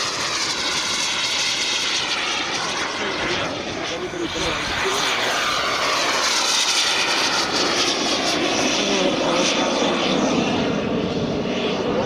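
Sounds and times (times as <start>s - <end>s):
jet turbines whining: 0.0s - 12.0s.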